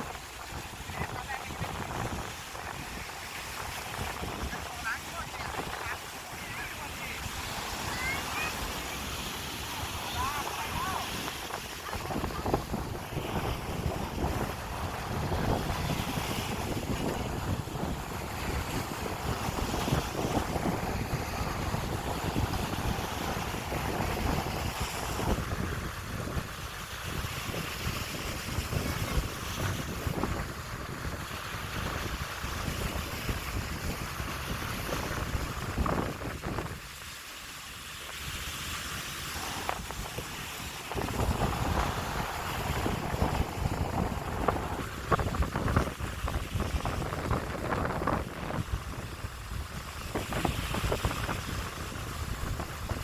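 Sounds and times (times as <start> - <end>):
sea waves washing onto beach: 0.0 - 53.0
strong wind buffeting microphone: 0.0 - 53.0.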